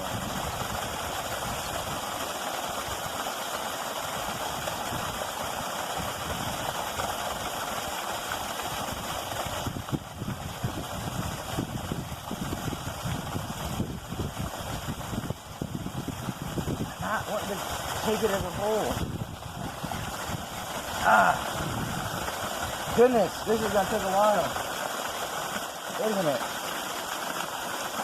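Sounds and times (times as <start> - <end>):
water rushing over a small fall: 0.0 - 28.0.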